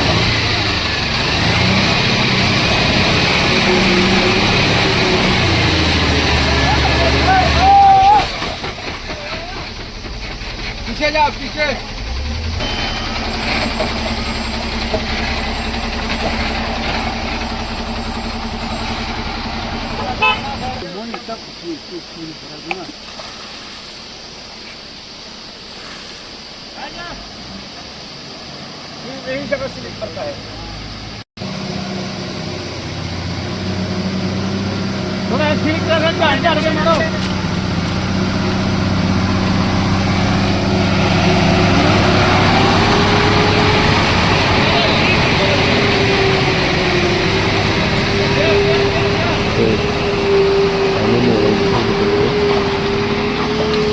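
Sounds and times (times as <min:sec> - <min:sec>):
heavy vehicle engine idling: 0:00.0 - 0:22.4, 0:29.3 - 0:53.9.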